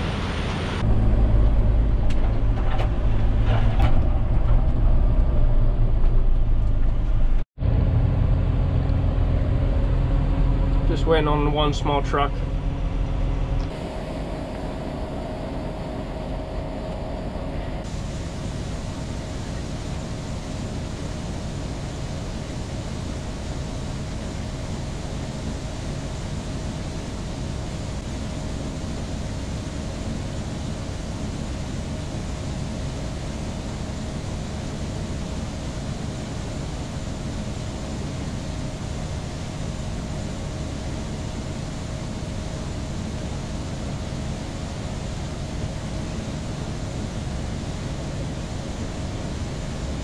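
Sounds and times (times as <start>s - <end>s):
whining hum: 0.0s - 50.0s.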